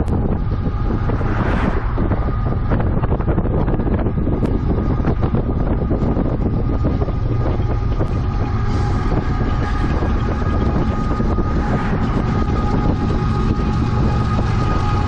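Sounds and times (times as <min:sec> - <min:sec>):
faint steady whine: 0:00.0 - 0:15.0
freight train rumbling: 0:00.0 - 0:15.0
wind noise on microphone: 0:00.0 - 0:15.0.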